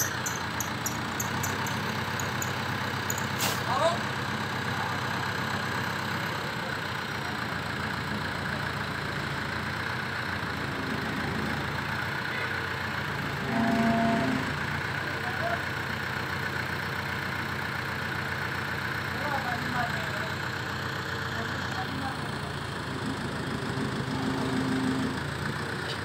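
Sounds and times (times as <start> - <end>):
crane diesel engine running: 0.0 - 26.0.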